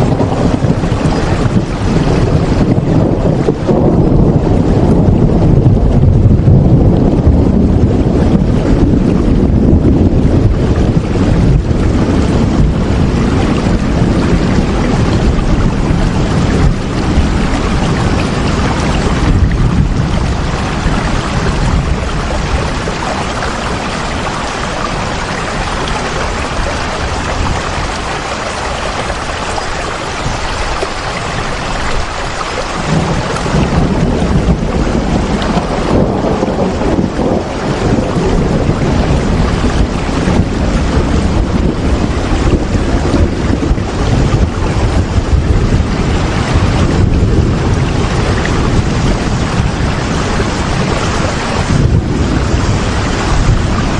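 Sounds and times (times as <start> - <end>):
deep low rumble: 0.0 - 32.0, 32.9 - 53.9
heavy rain: 0.0 - 53.9.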